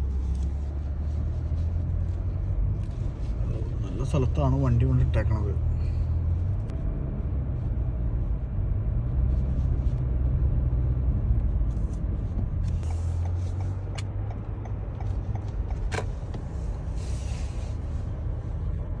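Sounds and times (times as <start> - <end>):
car engine rumble: 0.0 - 19.0
road noise: 0.0 - 19.0.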